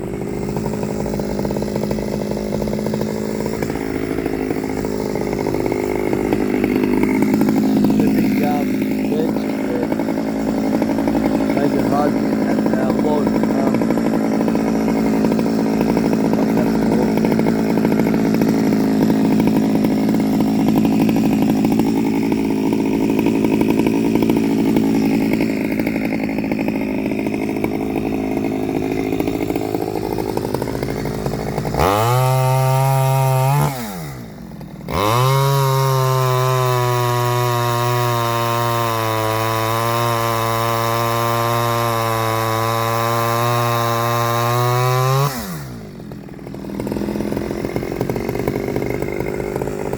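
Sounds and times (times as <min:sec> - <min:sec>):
chainsaw cutting wood: 0:00.0 - 0:49.9
chainsaw revving: 0:00.0 - 0:49.9.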